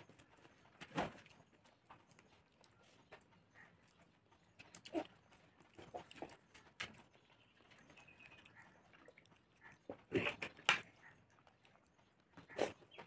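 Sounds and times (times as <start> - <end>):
chewing and mouth smacks: 0.0 - 13.0.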